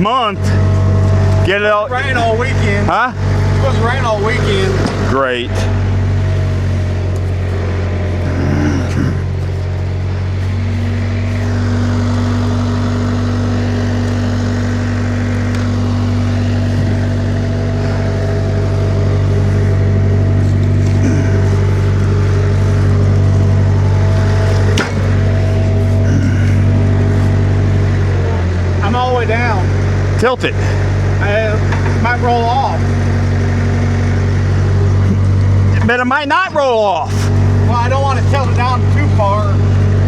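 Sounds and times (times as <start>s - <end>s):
skid steer engine droning: 0.0s - 40.0s.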